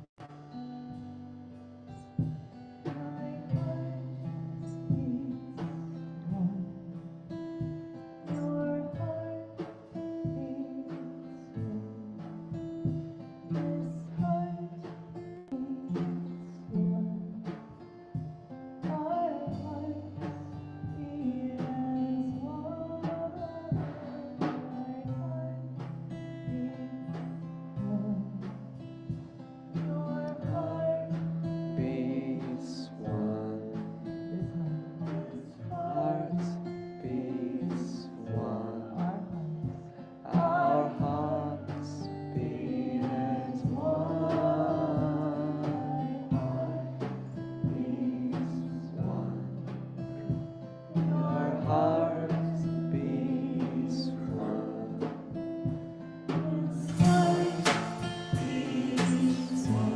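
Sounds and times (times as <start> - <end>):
acoustic guitar: 0.0 - 59.9
person singing: 2.9 - 7.0, 8.2 - 17.6, 18.8 - 28.4, 29.8 - 55.4, 56.0 - 59.9.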